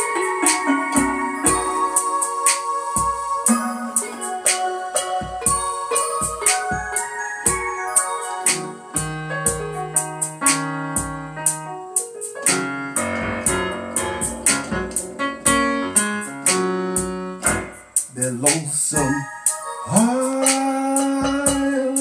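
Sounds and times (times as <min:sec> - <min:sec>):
drum hits: 0:00.0 - 0:07.7, 0:08.5 - 0:11.6, 0:12.4 - 0:19.1, 0:21.2 - 0:22.0
keyboard playing piano chords: 0:00.0 - 0:22.0.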